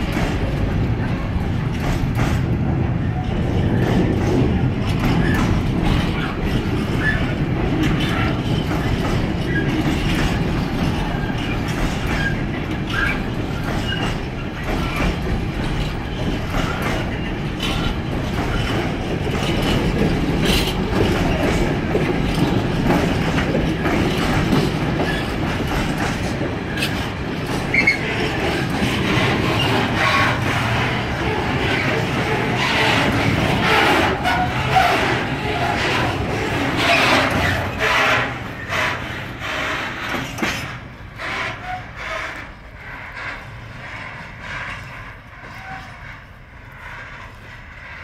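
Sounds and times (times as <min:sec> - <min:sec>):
wheels clicking over rail joints: 0:00.0 - 0:47.8
freight train wheels rumbling: 0:00.0 - 0:48.0.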